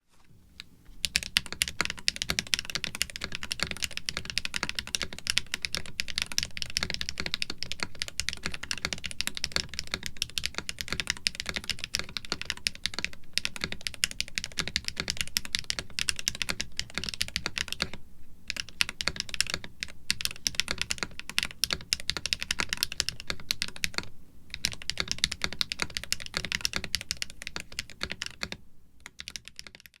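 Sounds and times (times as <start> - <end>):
typing on mechanical keyboard: 1.0 - 30.0.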